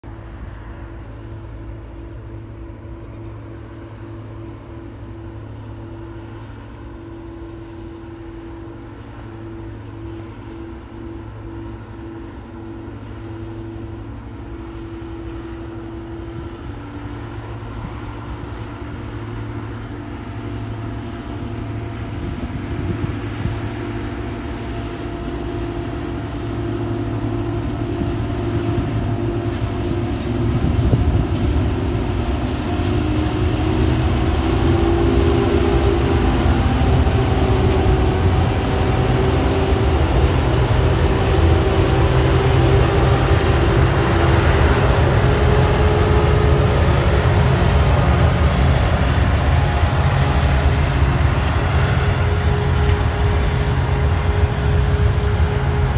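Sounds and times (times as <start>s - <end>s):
diesel locomotive engines droning: 0.0s - 55.9s.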